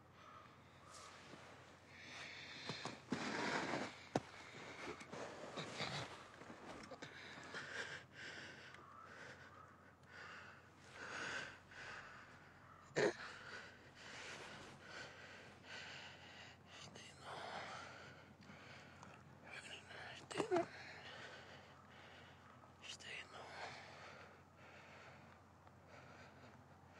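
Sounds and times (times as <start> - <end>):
man breathing heavily: 0.0 - 26.9.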